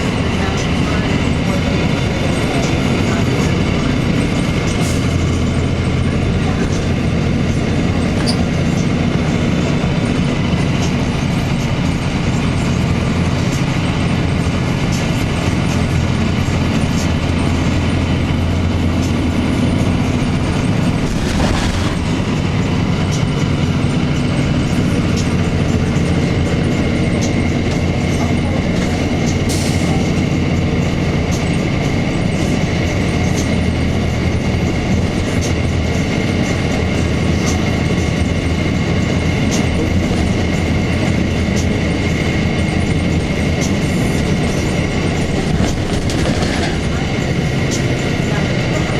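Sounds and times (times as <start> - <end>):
bus diesel engine drone: 0.0 - 48.9
rattles and road noise: 0.0 - 48.9.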